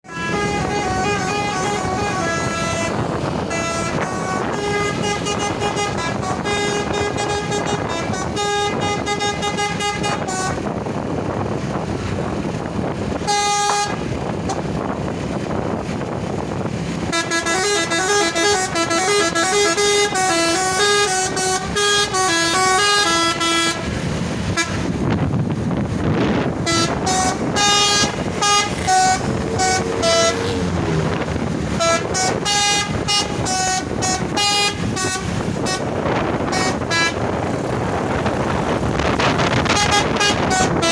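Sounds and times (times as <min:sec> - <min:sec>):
bus musical horn: 0:00.0 - 0:11.8, 0:12.4 - 0:25.4, 0:26.0 - 0:40.9
bus engine: 0:00.0 - 0:40.9
road noise: 0:00.0 - 0:40.9.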